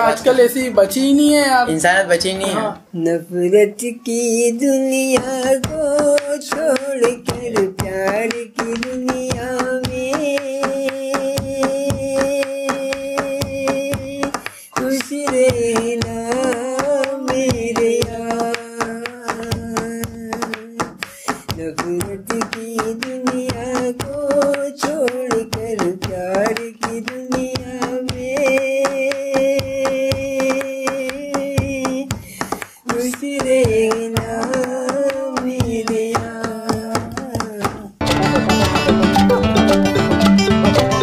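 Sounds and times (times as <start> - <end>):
man singing: 2.3 - 32.1, 32.8 - 38.7
hands beating on a tabletop: 5.0 - 39.8.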